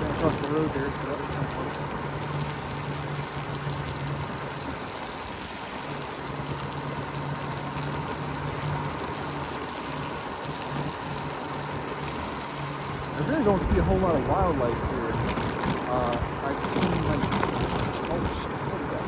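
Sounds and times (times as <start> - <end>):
low motor hum: 0.0 - 19.0
wind and road noise: 0.0 - 19.0.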